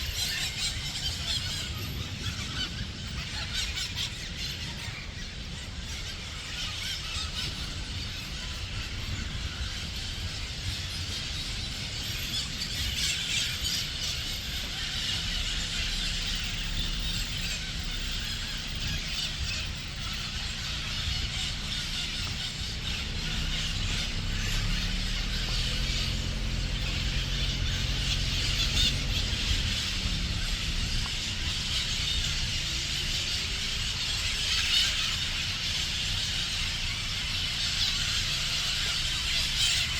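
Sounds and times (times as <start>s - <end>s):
chorus of high-pitched animal calls: 0.0s - 39.9s.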